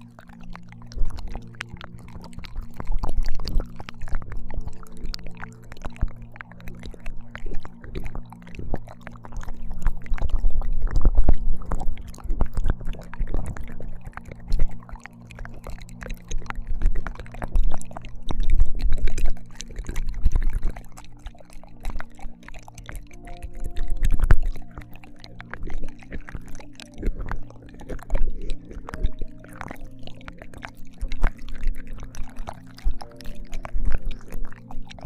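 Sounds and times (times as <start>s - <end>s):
wet mouth clicks and smacks: 0.0s - 35.0s.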